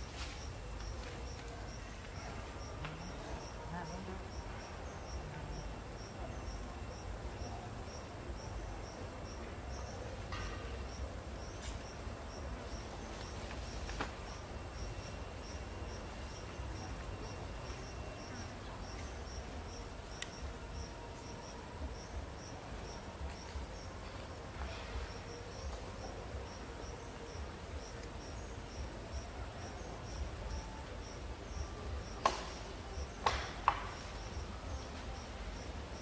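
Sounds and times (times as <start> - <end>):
insect chirping: 0.0 - 36.0.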